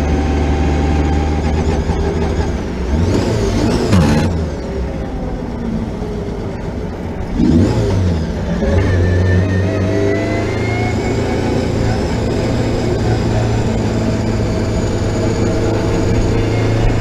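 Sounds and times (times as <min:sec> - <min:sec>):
race car engine drone: 0:00.0 - 0:17.0.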